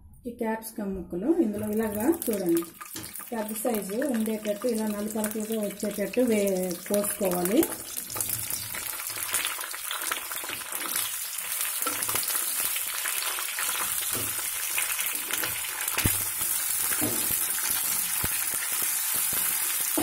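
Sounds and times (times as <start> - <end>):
vegetables sizzling in hot oil: 1.6 - 20.0.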